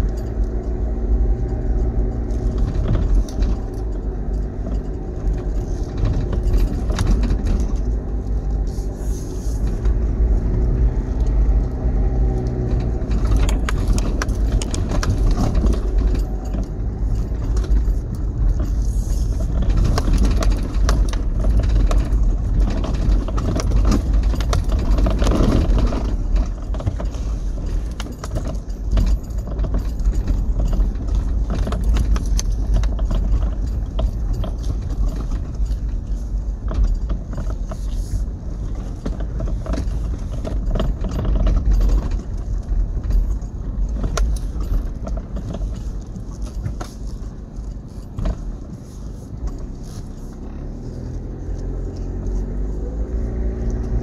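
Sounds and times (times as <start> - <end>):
car engine hum: 0.0 - 54.0
knocks and rattles: 0.0 - 54.0.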